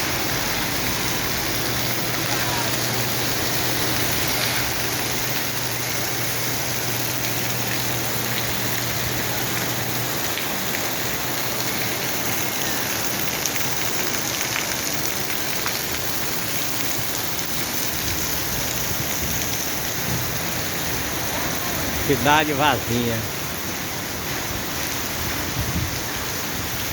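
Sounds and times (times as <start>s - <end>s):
heavy rain pattering: 0.0s - 26.9s.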